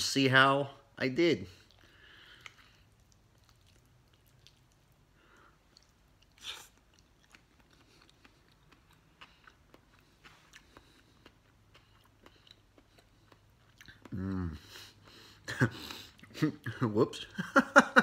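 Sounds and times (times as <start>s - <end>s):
faint chewing: 1.5s - 16.7s.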